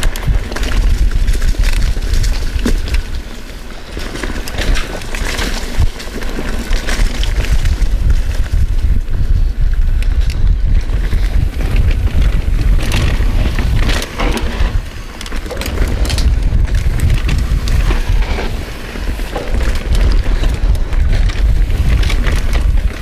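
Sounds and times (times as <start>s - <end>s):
bike rattling: 0.0s - 23.0s
tyres rumbling over dirt: 0.0s - 23.0s
wind buffeting microphone: 0.0s - 23.0s.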